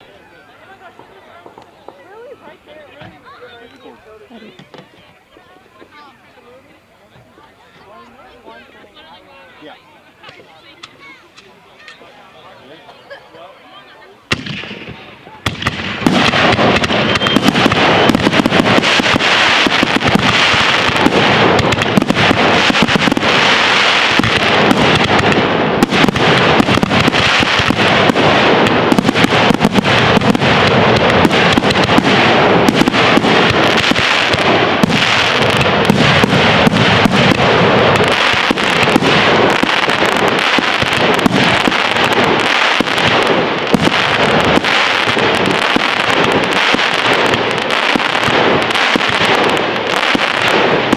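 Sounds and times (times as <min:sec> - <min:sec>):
fireworks cracking and popping: 0:00.5 - 0:06.1, 0:10.2 - 0:12.3, 0:14.3 - 0:50.9.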